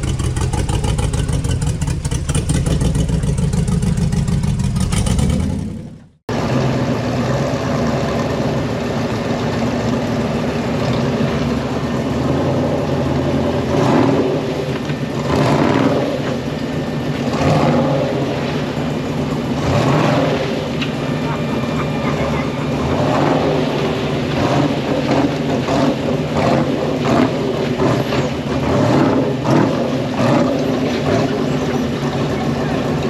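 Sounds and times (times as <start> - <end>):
engine revving: 0.0 - 8.8, 10.6 - 33.0
vehicle engine running: 0.0 - 33.0.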